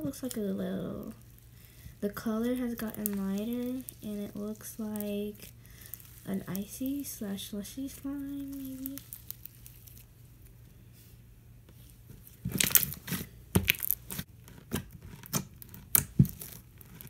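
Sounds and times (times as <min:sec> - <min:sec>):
slime crackling and popping: 0:00.0 - 0:10.1, 0:12.3 - 0:17.0.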